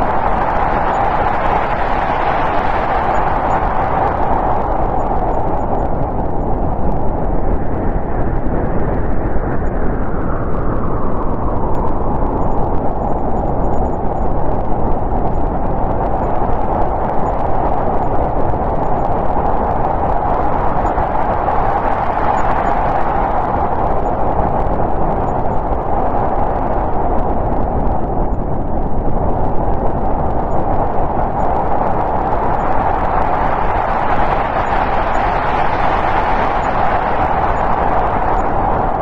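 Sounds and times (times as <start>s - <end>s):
storm wind blowing: 0.0s - 39.0s.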